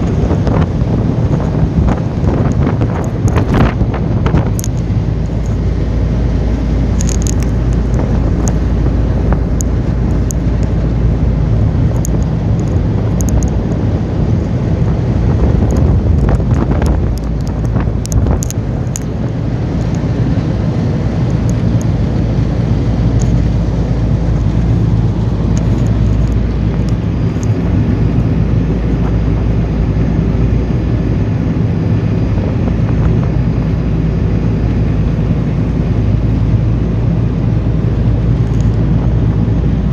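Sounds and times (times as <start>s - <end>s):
boat engine humming: 0.0s - 39.9s
wind buffeting microphone: 0.0s - 39.9s.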